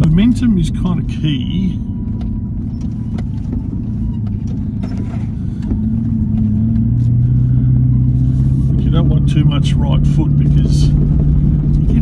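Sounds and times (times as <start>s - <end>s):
engine pulling in low gear: 0.0s - 12.0s.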